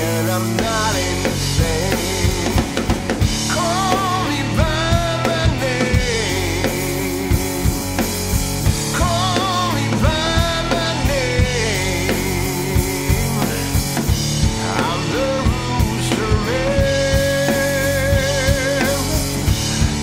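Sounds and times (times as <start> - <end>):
blues rock song: 0.0 - 20.0
drum kit beat: 0.0 - 20.0.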